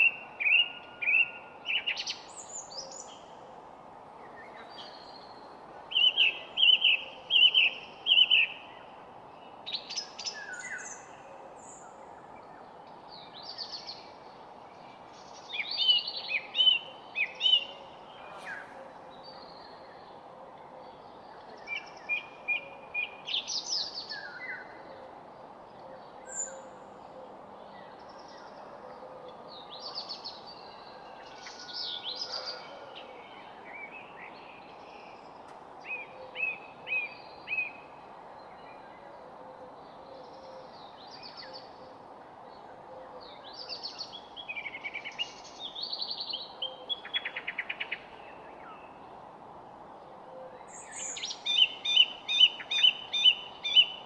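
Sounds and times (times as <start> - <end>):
songbirds singing and chirping: 0.0 - 54.0
steady background hiss: 0.0 - 54.0.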